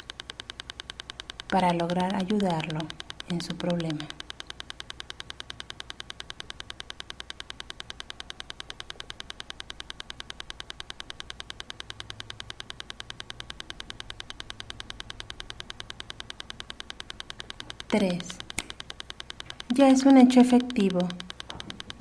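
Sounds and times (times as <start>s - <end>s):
fast even ticking: 0.0s - 22.0s.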